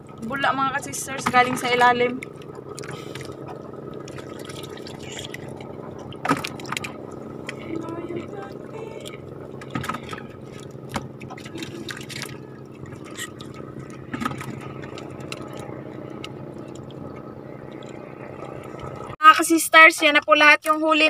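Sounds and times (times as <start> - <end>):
water lapping against boat hull: 0.0 - 19.2.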